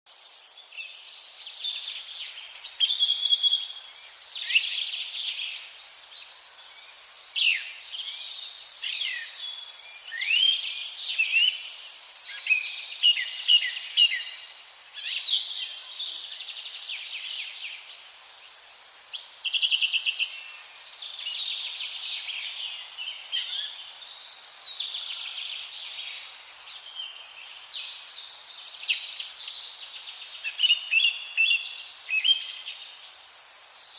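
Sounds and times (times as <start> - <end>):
birds singing and chirping: 0.3 - 33.9.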